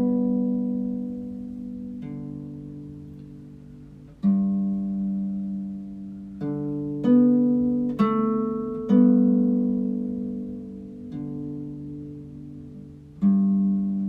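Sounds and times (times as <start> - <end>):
slow harp music: 0.0 - 14.0.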